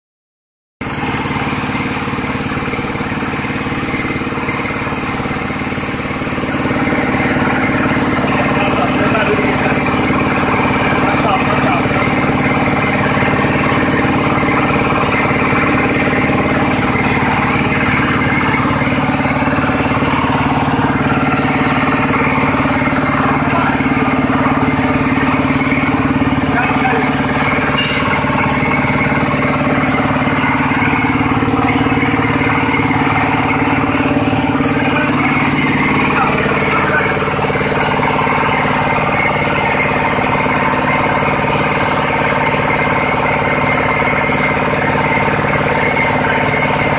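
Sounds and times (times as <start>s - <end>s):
diesel engine running: 0.8s - 46.9s
rotary drum sifter: 0.8s - 46.9s.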